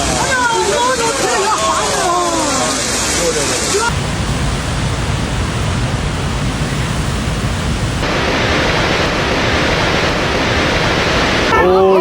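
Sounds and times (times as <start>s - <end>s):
rushing water roar: 0.0s - 12.0s.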